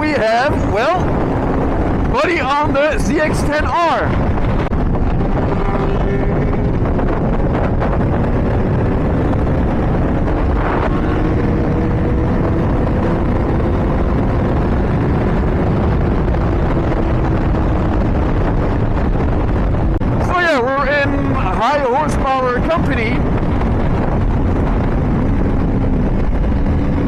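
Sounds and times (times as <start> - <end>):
motorcycle engine running: 0.0 - 2.7, 3.4 - 27.0
wind rush: 0.0 - 27.0.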